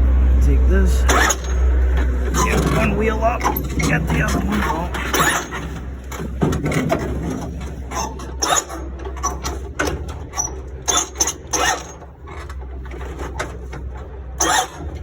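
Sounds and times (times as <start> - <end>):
steady low hum: 0.0 - 15.0
metal clanking and scraping: 0.9 - 15.0.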